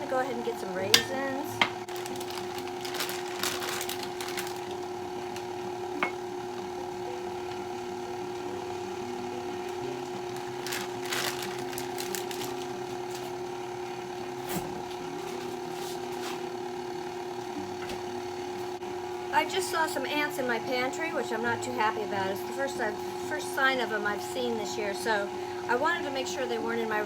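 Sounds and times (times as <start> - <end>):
electric mixer motor humming: 0.0 - 27.0.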